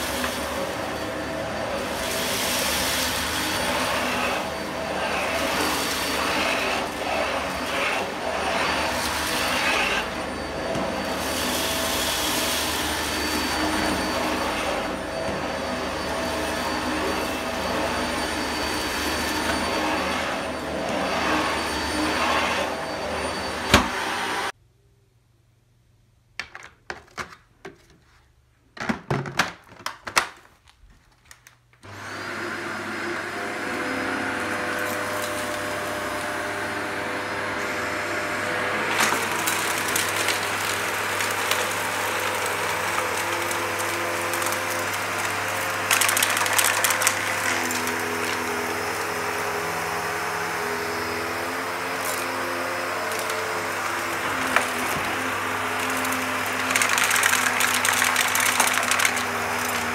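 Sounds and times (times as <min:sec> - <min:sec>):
vacuum cleaner motor running: 0:00.0 - 0:24.5, 0:31.8 - 0:59.9.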